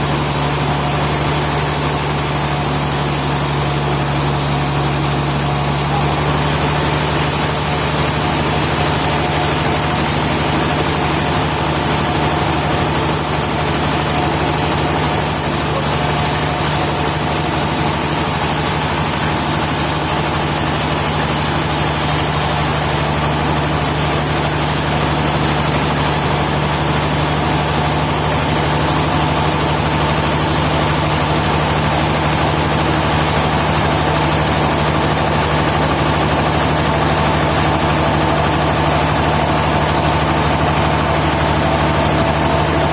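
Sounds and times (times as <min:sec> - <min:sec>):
sawmill engine humming: 0:00.0 - 0:42.9.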